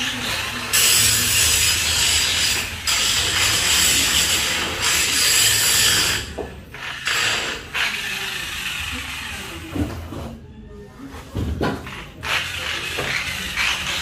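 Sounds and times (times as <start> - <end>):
angle grinder grinding steel: 0.0 - 9.7, 12.2 - 14.0.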